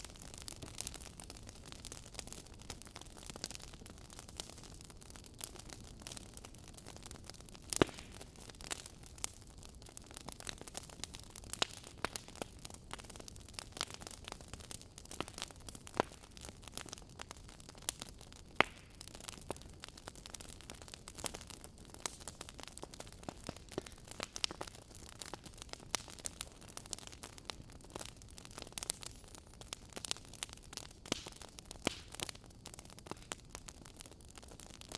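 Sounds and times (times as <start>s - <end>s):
logs crackling and popping: 0.0s - 34.9s.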